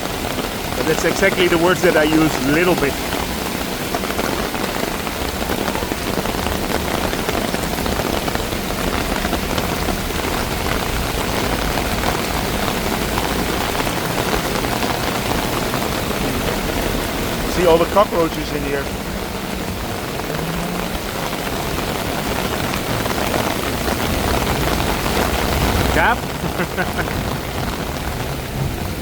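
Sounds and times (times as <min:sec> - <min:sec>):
heavy rain on the street: 0:00.0 - 0:29.0.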